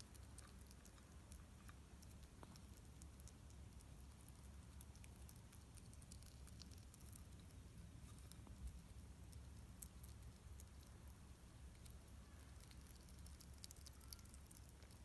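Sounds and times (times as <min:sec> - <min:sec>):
hedgehog chewing clicks: 0:00.0 - 0:15.0
low steady hum: 0:00.0 - 0:15.0.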